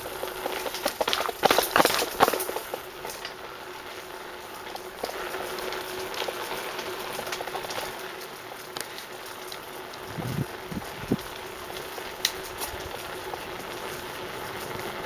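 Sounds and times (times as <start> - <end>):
bicycle tyres rolling on concrete: 0.0 - 15.0
bike clicking and rattling: 0.0 - 15.0.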